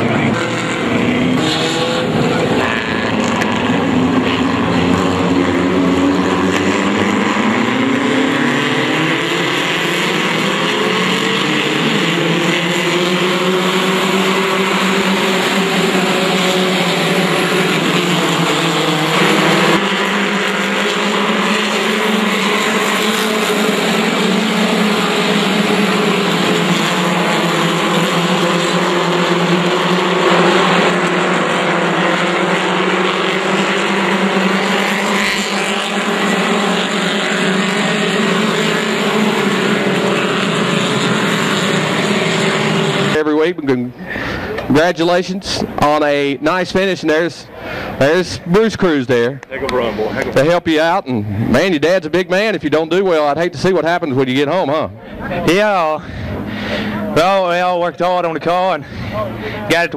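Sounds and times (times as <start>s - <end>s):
race car engines at speed: 0.0s - 59.9s.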